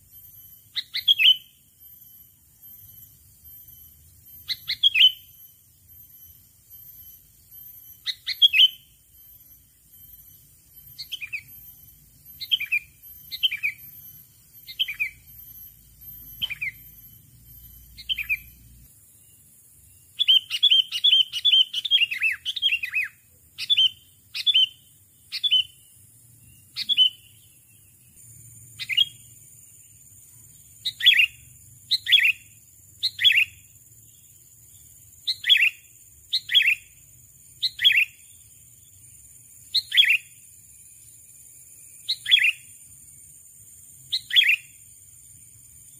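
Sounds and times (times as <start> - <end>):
bird chirping: 0.0 - 45.9.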